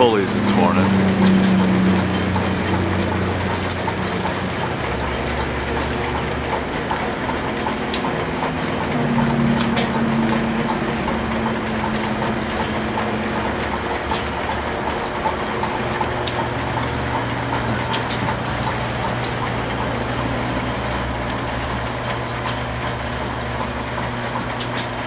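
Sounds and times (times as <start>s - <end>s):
line shaft mechanical hum: 0.0s - 25.0s.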